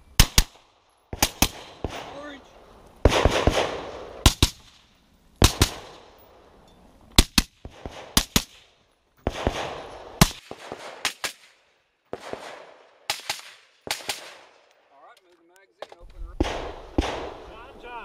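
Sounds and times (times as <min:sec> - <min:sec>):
rifle shots: 0:00.2 - 0:02.4, 0:03.0 - 0:06.3, 0:07.2 - 0:14.7, 0:16.3 - 0:17.8.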